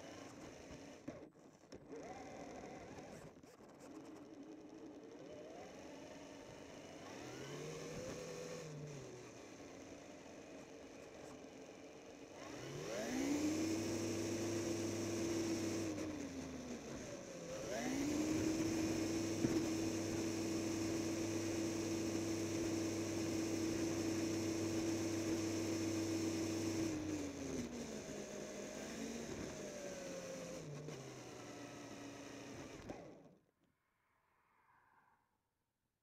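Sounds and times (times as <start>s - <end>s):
toy truck motor whining: 1.9s - 3.4s, 4.1s - 33.4s.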